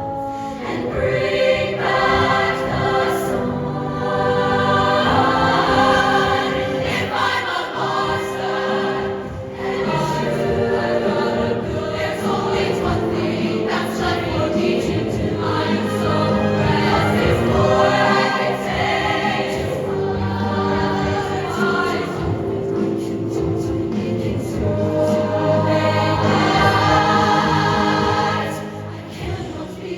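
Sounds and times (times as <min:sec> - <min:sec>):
choir singing held chords: 0:00.0 - 0:29.9.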